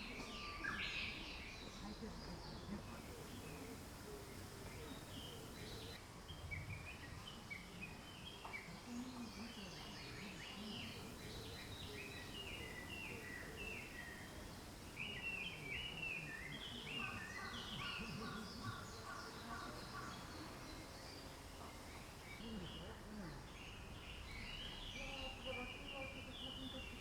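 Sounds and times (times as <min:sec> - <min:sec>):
low background noise: 0:00.0 - 0:27.0
small birds chirping: 0:00.0 - 0:27.0.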